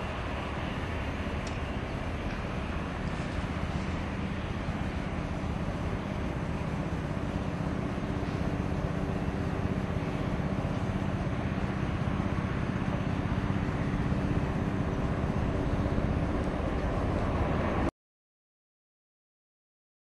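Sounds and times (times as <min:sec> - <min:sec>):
jet engines rumbling: 0:00.0 - 0:17.9.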